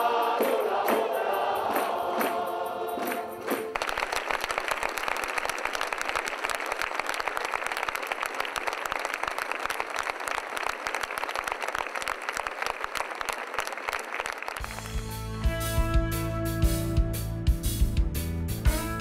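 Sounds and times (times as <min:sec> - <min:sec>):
crowd applauding: 0:00.0 - 0:15.5.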